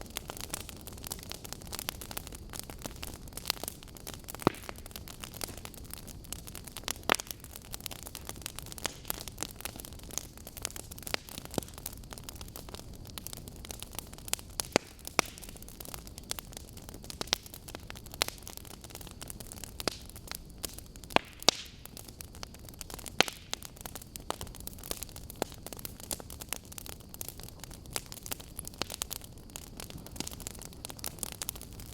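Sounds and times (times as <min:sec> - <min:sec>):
burning logs crackling: 0:00.0 - 0:31.9
low fire hiss: 0:00.0 - 0:31.9.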